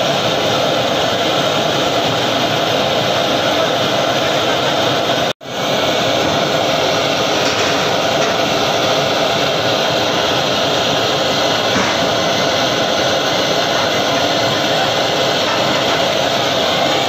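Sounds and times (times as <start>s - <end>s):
gas burner flame hissing: 0.0s - 17.0s.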